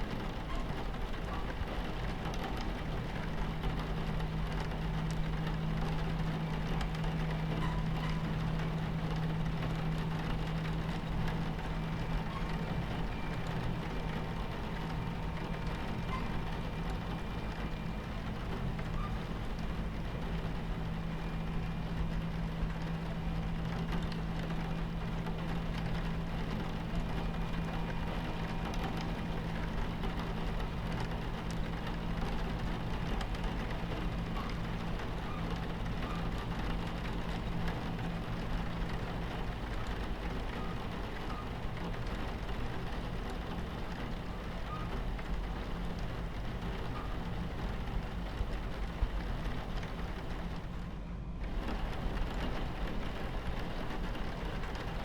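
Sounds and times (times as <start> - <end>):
moving train rumble: 0.0 - 55.0
rain against window: 0.0 - 55.0.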